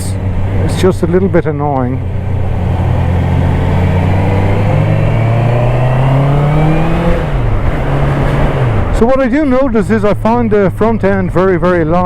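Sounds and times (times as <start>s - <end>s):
motorcycle engine revs climbing: 0.0s - 11.3s.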